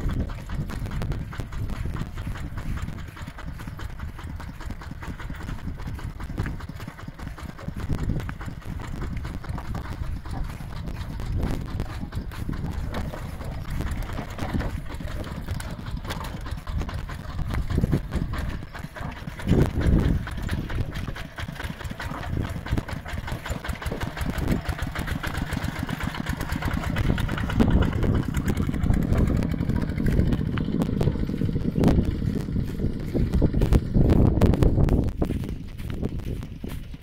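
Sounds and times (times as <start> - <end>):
diesel tractor engine running: 0.0 - 37.0.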